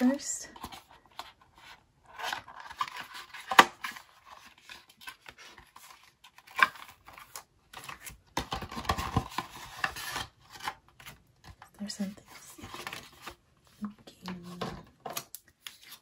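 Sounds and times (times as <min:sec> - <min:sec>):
cardboard rustling and scraping: 0:00.1 - 0:16.0.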